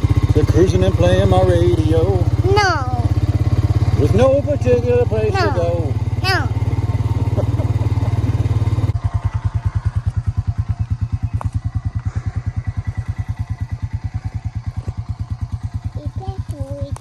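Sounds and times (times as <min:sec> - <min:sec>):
engine loping idle: 0:00.0 - 0:17.0.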